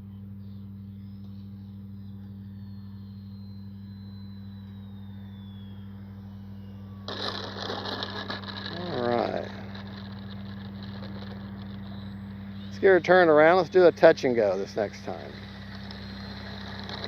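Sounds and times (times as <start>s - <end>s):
electric motor whine: 0.0s - 17.0s
steady low hum: 0.0s - 17.0s.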